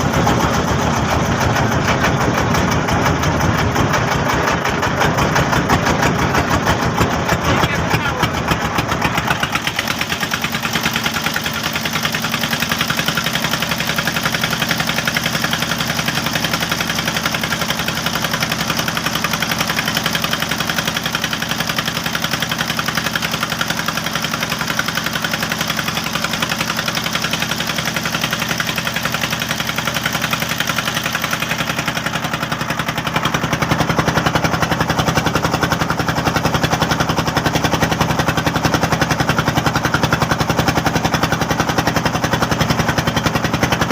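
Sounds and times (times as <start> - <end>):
boat engine chugging: 0.0 - 43.9.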